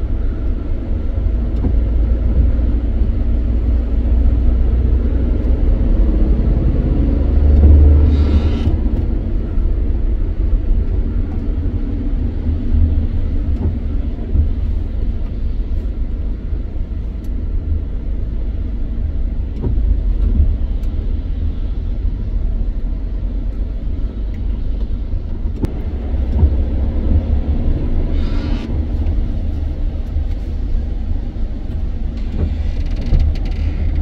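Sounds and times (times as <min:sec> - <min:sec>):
tyres on wet road: 0:00.0 - 0:34.0
vehicle engine rumble: 0:00.0 - 0:34.0.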